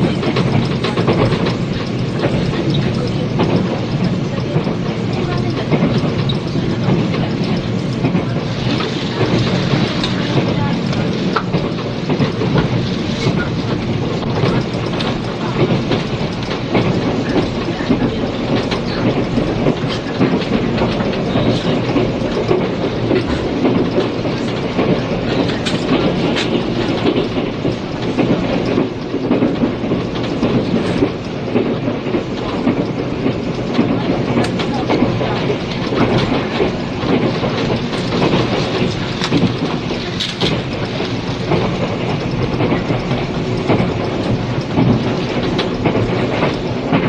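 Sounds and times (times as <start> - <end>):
rail joint clicks: 0.0 - 47.0
train wheels rumbling on rail: 0.0 - 47.0.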